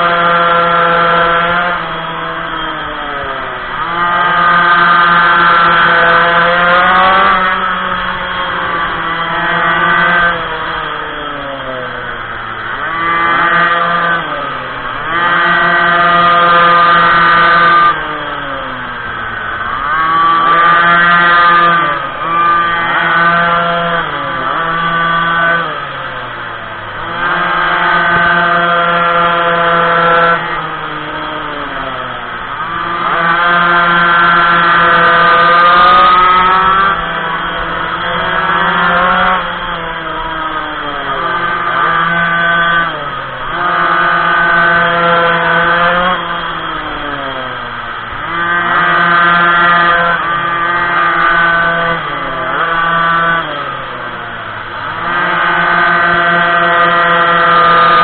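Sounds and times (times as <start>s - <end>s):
small two-stroke engine revving: 0.0s - 58.0s.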